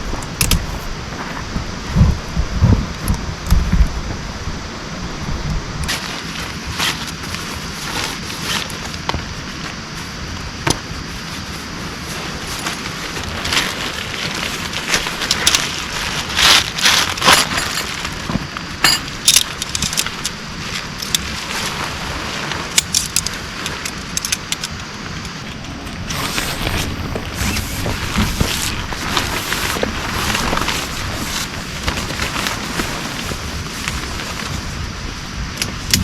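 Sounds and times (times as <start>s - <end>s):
rain hiss: 0.0s - 36.0s.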